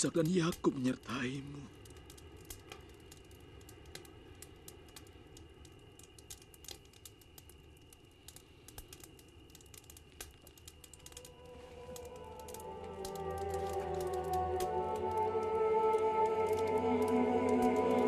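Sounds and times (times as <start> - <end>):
faint steady background hum: 0.0 - 18.0
soft clicks and crackles: 0.0 - 18.0.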